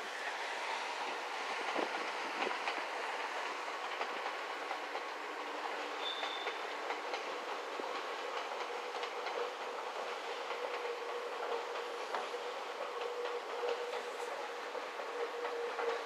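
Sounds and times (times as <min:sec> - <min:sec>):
train rolling on rails: 0:00.0 - 0:16.0.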